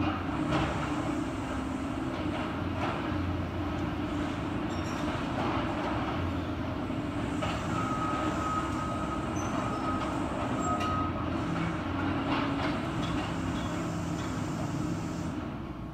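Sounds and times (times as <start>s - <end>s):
excavator diesel engine rumbling: 0.0s - 15.9s.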